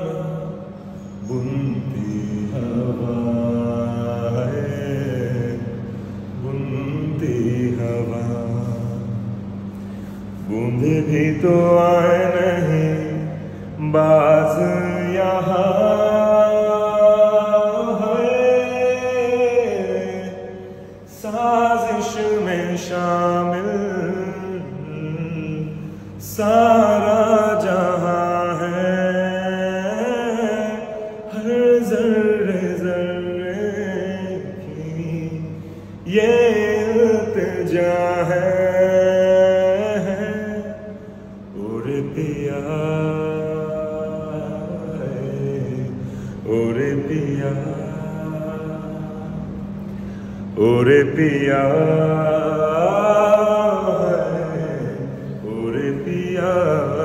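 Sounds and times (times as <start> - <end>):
person chanting a slow melody: 0.0 - 57.0
steady low drone: 0.0 - 57.0.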